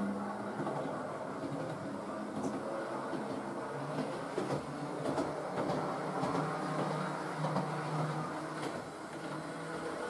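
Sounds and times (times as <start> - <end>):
model train motor hum: 0.0 - 10.0
wheels clicking on rails: 0.0 - 10.0.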